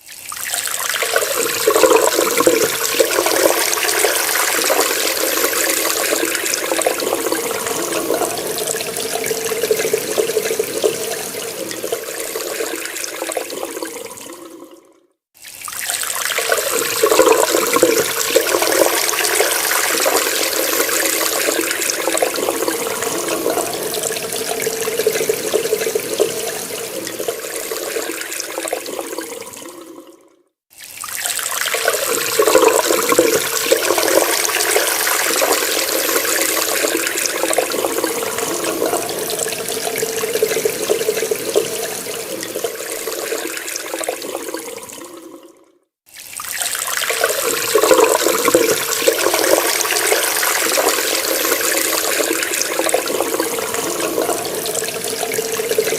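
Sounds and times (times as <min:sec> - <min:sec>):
water running from tap: 0:00.0 - 0:14.8, 0:15.4 - 0:55.9.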